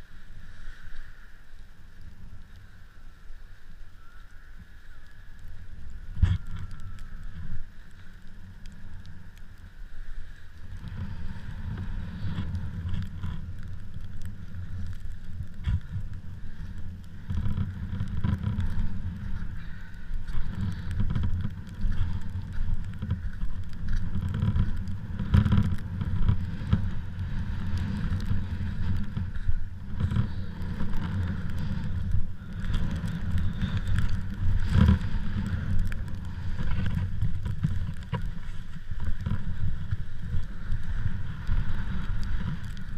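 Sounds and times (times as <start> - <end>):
gusty wind buffeting microphone: 0.0 - 42.9.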